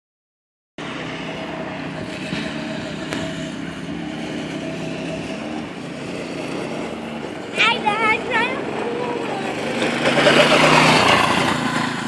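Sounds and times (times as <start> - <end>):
small petrol engine running: 0.8 - 12.0.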